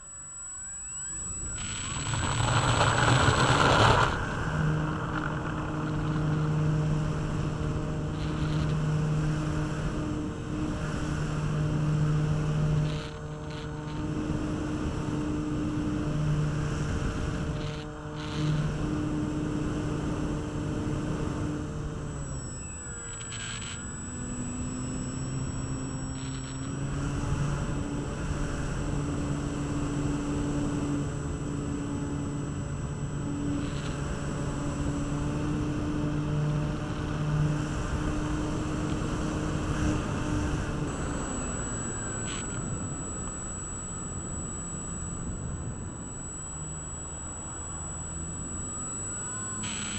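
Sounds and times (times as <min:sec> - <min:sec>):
model plane motor droning: 0:00.0 - 0:49.9.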